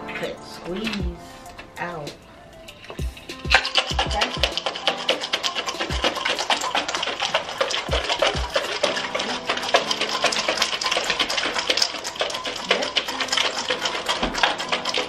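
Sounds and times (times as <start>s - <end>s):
ice rattling in shaken jar: 2.9s - 15.0s.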